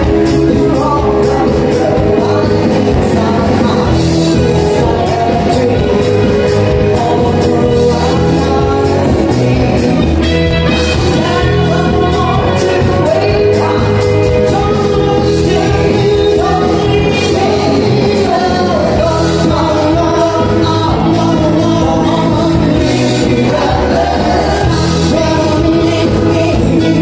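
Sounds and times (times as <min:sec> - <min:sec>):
live band playing: 0:00.0 - 0:27.0
person singing: 0:00.0 - 0:27.0.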